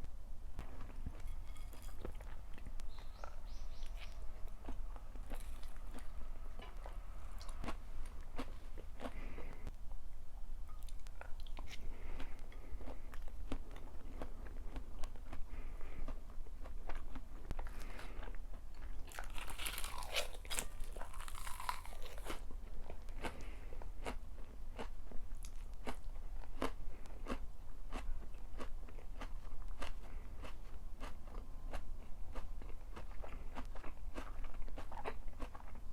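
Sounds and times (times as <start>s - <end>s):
person chewing crunchy food: 0.6s - 9.7s, 10.6s - 35.9s.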